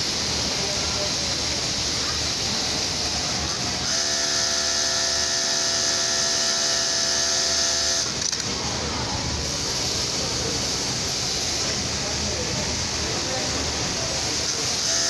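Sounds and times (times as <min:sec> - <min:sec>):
workshop machines humming: 0:00.0 - 0:15.0.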